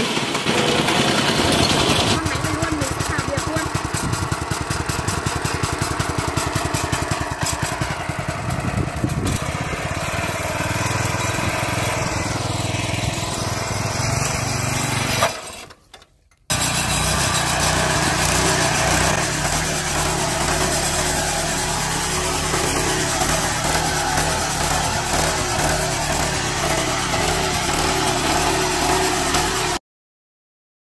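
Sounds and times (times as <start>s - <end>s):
flail mower engine running: 0.0s - 15.7s, 16.4s - 29.8s.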